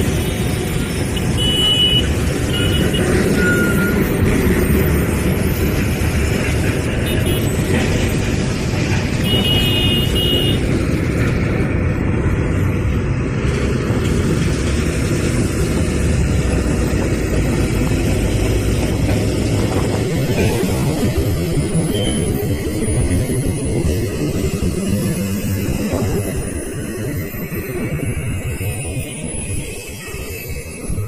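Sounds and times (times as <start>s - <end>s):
trucks and cars passing: 0.0s - 31.0s.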